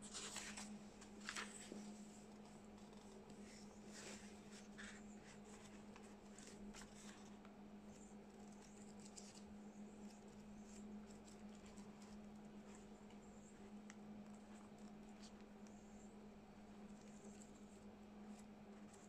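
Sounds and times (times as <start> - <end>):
book pages turning: 0.0 - 15.8
steady low hum: 0.0 - 19.0.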